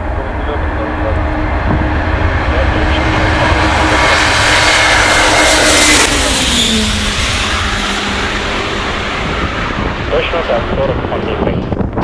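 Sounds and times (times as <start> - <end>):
jet aircraft taking off: 0.0 - 12.0.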